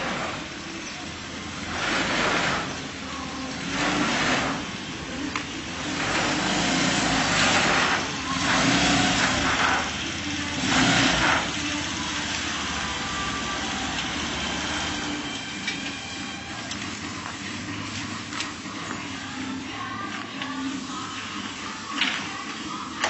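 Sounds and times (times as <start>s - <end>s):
motor tricycle engine running: 0.0s - 23.0s.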